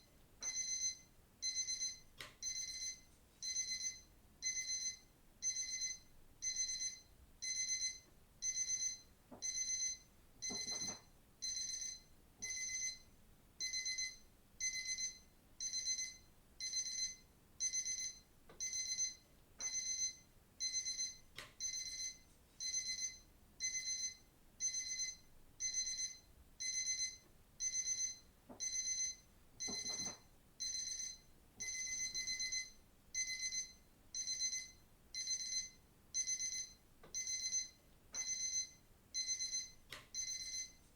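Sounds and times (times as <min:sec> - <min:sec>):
digital watch alarm beeping: 0:00.5 - 0:13.0, 0:13.6 - 0:40.8.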